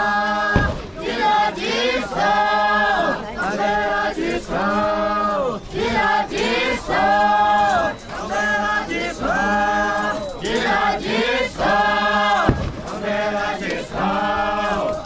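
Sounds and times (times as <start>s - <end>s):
group chanting in unison: 0.0s - 15.0s.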